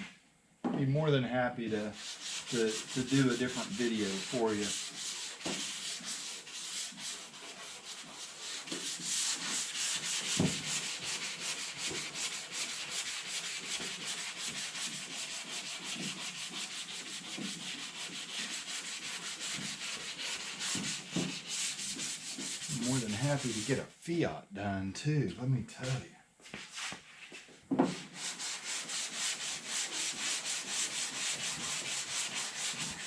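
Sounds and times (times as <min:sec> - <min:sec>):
sandpaper scratching on car panel: 0:02.0 - 0:23.8, 0:28.0 - 0:33.0.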